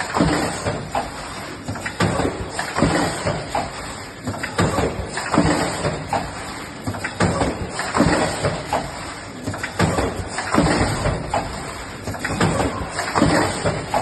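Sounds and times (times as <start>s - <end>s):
machinery clatter: 0.0s - 14.0s
steady mechanical din: 0.0s - 14.0s.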